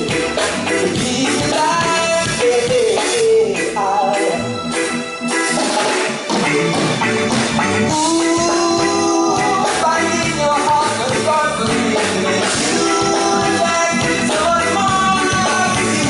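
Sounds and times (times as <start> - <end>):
live band with sung vocal: 0.0 - 16.0.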